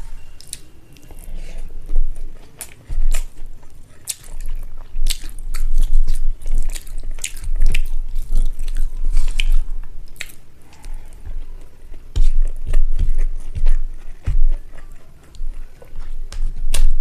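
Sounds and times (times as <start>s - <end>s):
wet chewing: 0.4s - 17.0s.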